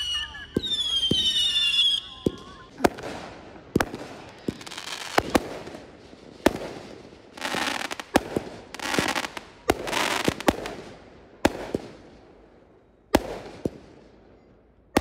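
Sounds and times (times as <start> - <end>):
fireworks crackling: 0.0 - 12.2
fireworks bangs: 0.0 - 12.3, 13.1 - 14.1.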